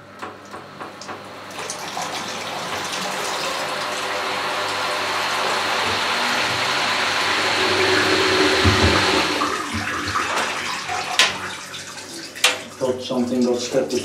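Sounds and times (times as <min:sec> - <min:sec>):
spin dryer drum whirring: 0:00.0 - 0:12.9
water gushing out of drain: 0:01.5 - 0:12.8.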